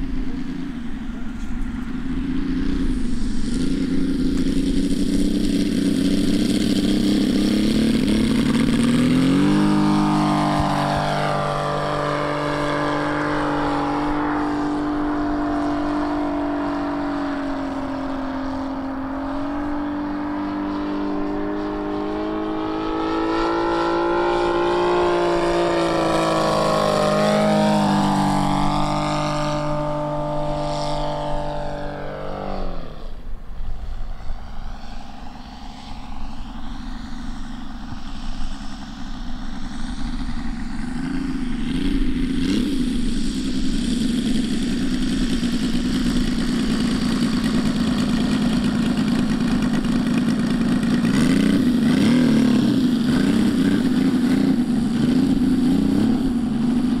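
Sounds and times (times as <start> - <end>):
model airplane engine: 0.0 - 57.0.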